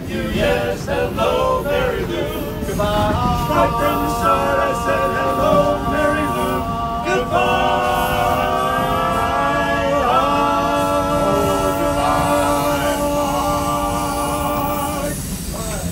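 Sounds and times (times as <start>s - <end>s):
male voices singing in harmony: 0.0s - 15.5s.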